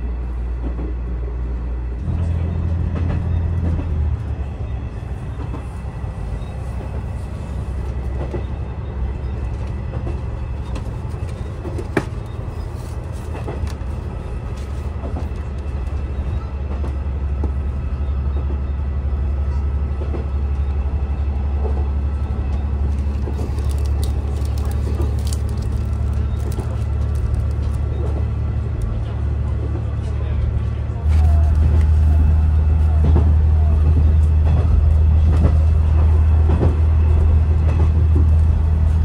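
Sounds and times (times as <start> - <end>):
railcar engine drone: 0.0 - 39.0.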